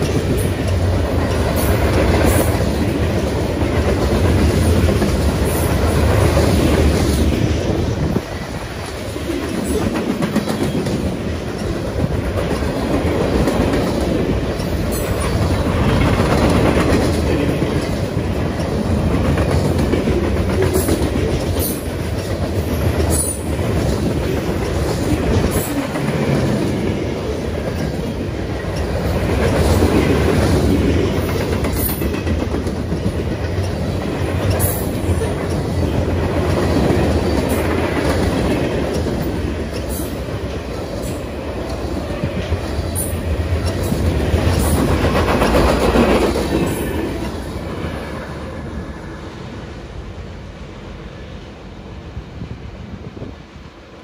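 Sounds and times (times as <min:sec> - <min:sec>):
clickety-clack over rail joints: 0:00.0 - 0:49.0
freight train wheels rumbling on rail: 0:00.0 - 0:54.0.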